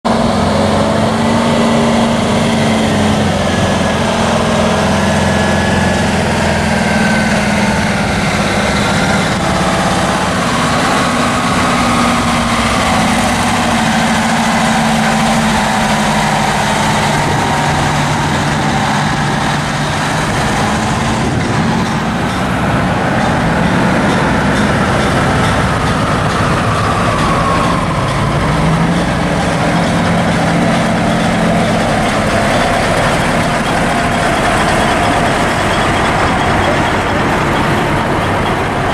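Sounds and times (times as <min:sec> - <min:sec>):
diesel truck engines droning: 0:00.0 - 0:38.9.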